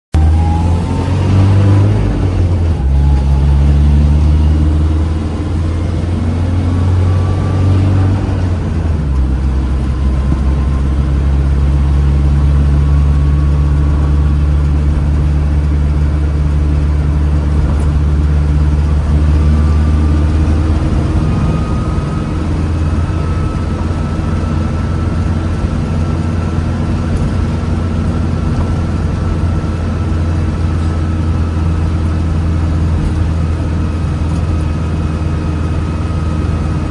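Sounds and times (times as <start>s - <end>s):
car engine droning: 0.1s - 36.9s
faint rising whine: 0.2s - 32.0s.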